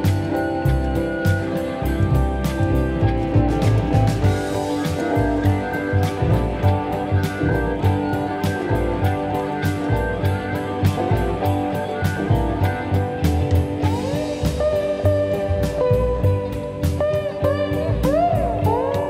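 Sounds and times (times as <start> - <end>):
guitar: 0.0 - 19.0
sliding guitar note: 0.0 - 19.0
steady drum beat: 0.0 - 19.0.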